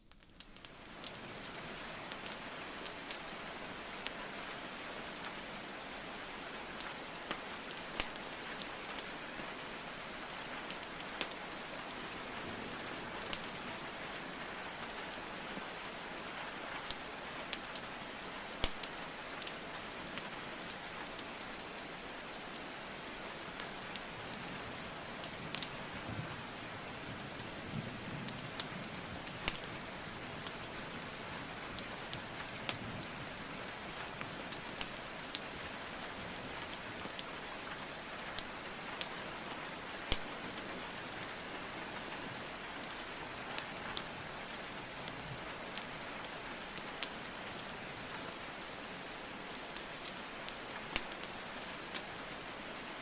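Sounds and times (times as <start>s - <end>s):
rain hiss: 0.0s - 53.0s
wood fire crackling: 0.0s - 53.0s.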